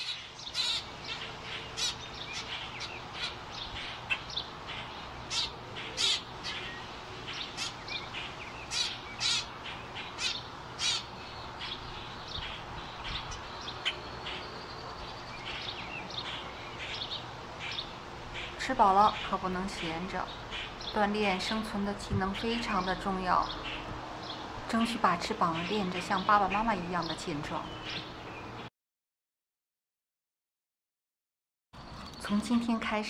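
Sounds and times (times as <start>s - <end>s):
fledgling birds chirping: 0.0s - 28.7s.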